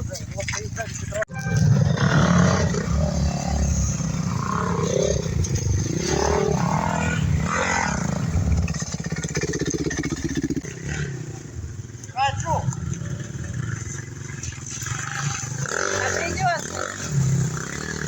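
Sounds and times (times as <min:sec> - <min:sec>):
motorcycle engine revving: 0:01.4 - 0:18.0.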